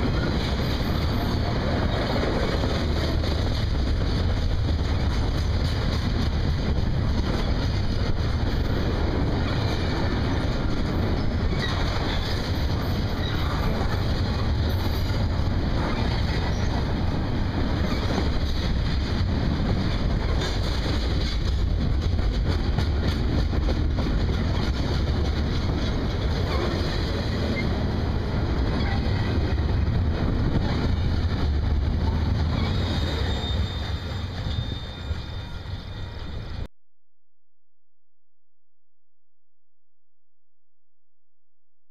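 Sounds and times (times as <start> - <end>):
train wheels clattering on rail: 0.0 - 36.4.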